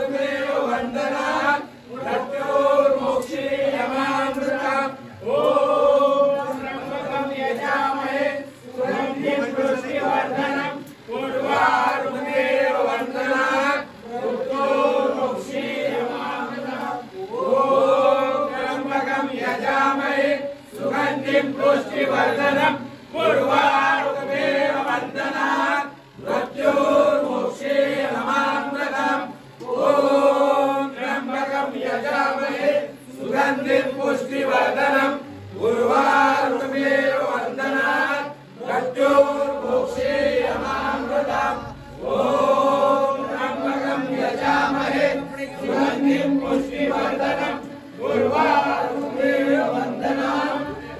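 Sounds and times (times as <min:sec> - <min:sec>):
men chanting in unison: 0:00.0 - 0:50.9.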